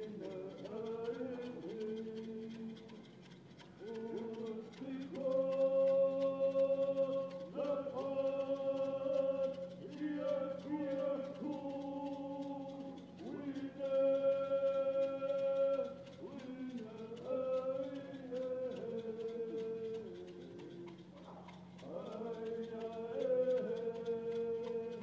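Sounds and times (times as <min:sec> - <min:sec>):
group of voices singing: 0:00.0 - 0:03.0, 0:03.8 - 0:25.0.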